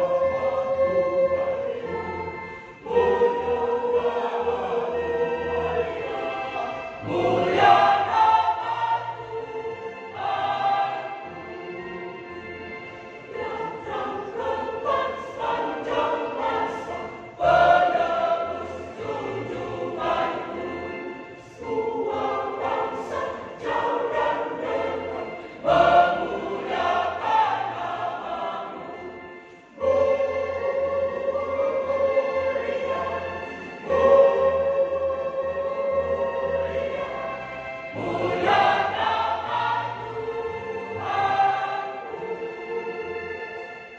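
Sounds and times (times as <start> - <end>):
church choir singing: 0.0 - 43.9.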